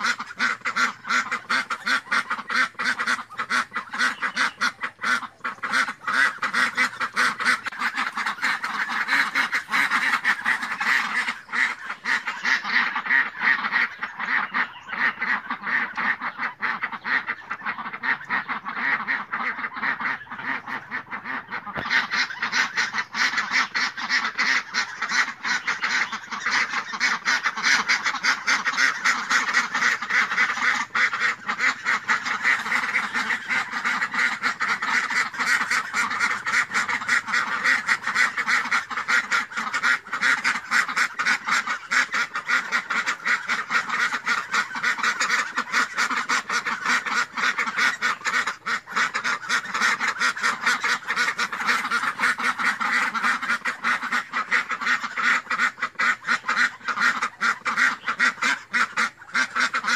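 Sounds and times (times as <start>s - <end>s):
ducks quacking: 0.0s - 59.9s.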